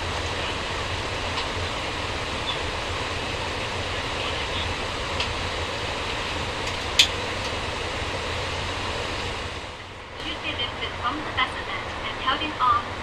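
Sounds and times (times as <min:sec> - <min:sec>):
airliner cabin air rush: 0:00.0 - 0:13.0
low hum: 0:00.0 - 0:13.0.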